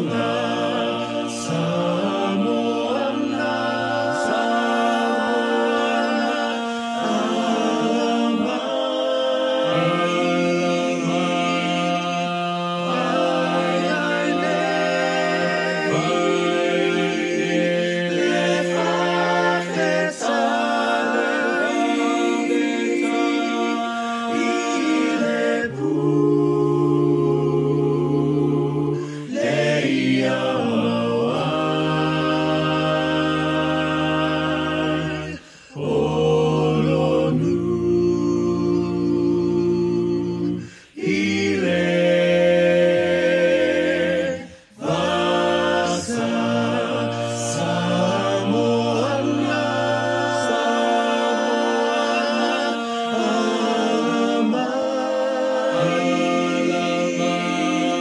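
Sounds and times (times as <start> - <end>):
voices singing in harmony: 0.0 - 58.0.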